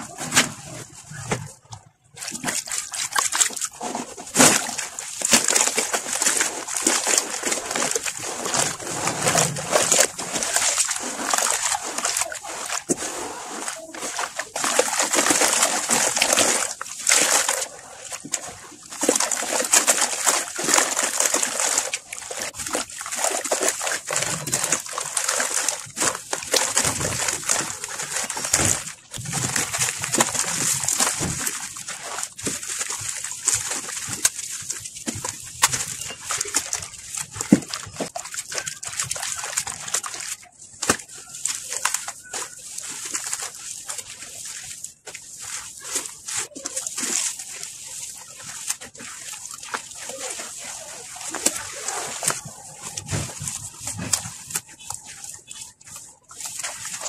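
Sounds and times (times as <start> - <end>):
hands splashing water in a tub: 0.0 - 57.0.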